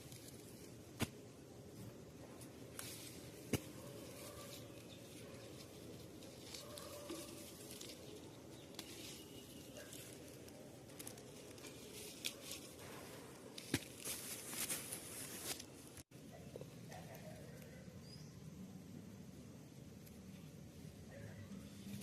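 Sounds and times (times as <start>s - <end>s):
rustling and handling noises: 0.0s - 17.6s.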